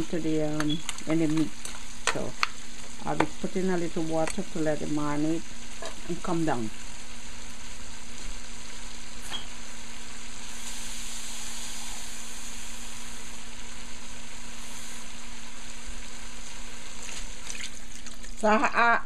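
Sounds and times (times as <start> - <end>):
meat sizzling in oil: 0.0 - 18.7.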